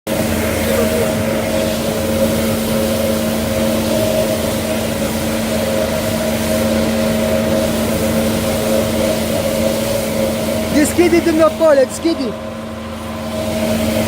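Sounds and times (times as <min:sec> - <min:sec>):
feed mixer mechanical drone: 0:00.1 - 0:14.0.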